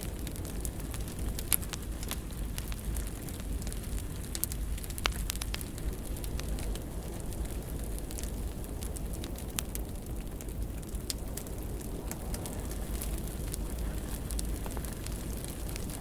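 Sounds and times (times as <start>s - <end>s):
fire crackling and popping: 0.0s - 16.0s
fire flames rumbling: 0.0s - 16.0s.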